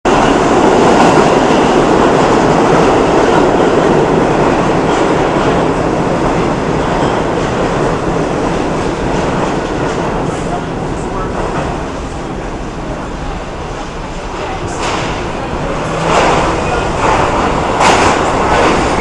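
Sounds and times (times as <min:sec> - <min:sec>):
subway train wheels on rail: 0:00.1 - 0:19.0.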